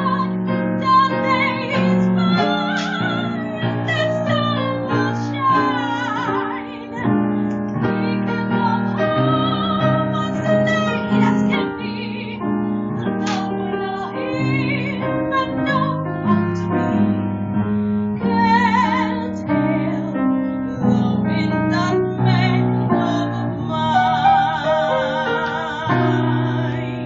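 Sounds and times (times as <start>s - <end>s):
woman singing with vibrato: 0.0s - 17.2s, 18.2s - 27.0s
piano accompaniment: 0.0s - 27.0s.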